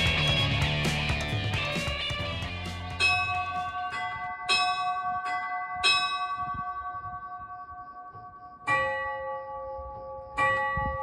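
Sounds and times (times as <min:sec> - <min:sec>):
bells ringing at different pitches: 0:00.0 - 0:11.0.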